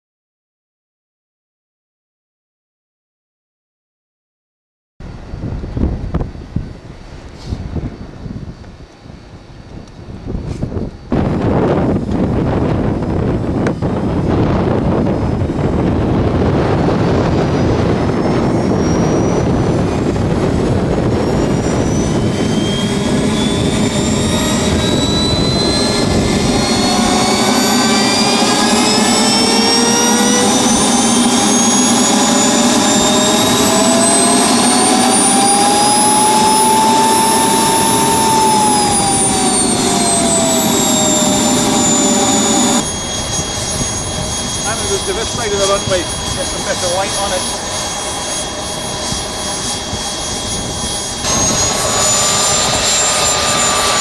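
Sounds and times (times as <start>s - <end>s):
model jet turbine spooling up: 10.2s - 54.0s.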